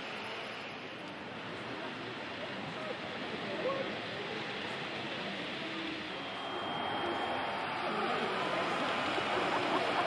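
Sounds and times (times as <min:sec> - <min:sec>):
crowd chatter: 0:00.0 - 0:10.0.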